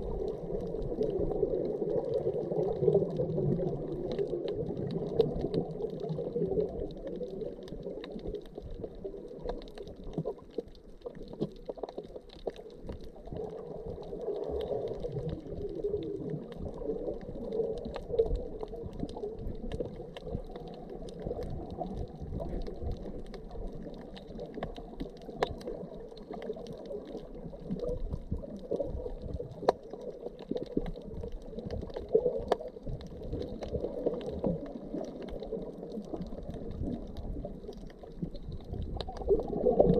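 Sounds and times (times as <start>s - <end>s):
underwater water wash: 0.0s - 39.9s
water gurgling: 0.0s - 39.9s
sharp underwater clicks: 0.2s - 39.9s.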